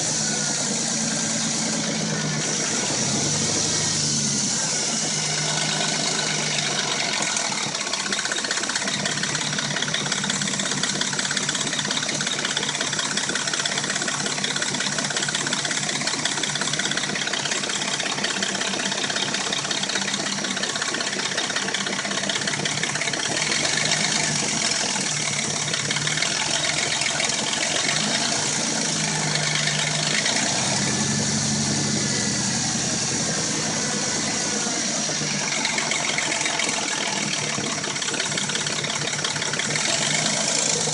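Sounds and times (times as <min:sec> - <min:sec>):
car engine idling: 0:00.0 - 0:40.9
engine rattle: 0:00.0 - 0:40.9.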